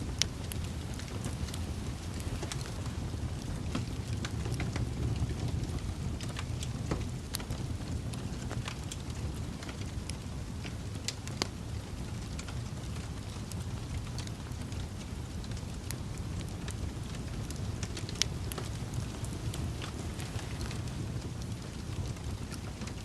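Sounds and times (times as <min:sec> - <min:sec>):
logs crackling and popping: 0:00.0 - 0:23.0
low rumble of flames: 0:00.0 - 0:23.0.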